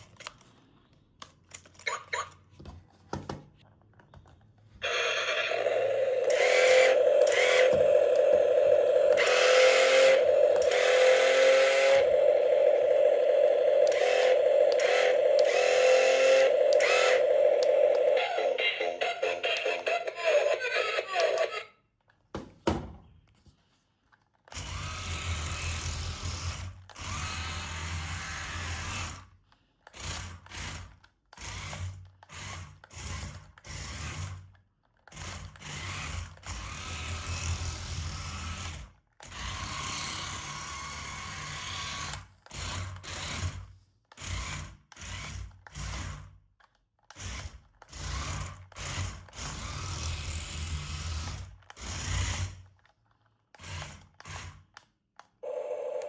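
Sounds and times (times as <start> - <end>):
toy car motor whirring: 4.8 - 21.7, 24.1 - 56.0.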